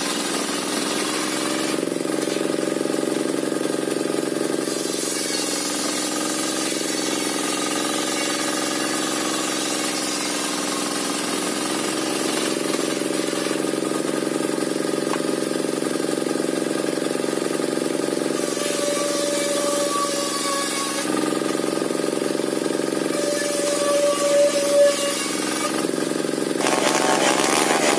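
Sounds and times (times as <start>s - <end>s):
saw blade whine: 0.0s - 27.9s.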